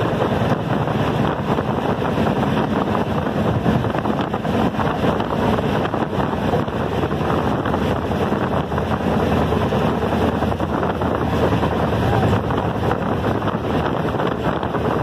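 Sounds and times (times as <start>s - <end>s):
train wheels rumbling: 0.0s - 15.0s
wind buffeting microphone: 0.0s - 15.0s.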